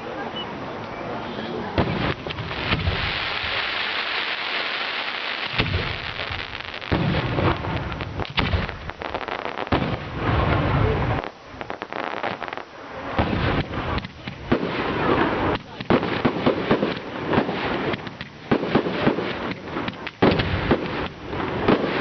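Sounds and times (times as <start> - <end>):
fireworks crackling: 1.6 - 22.0
firework shells booming: 1.8 - 22.0.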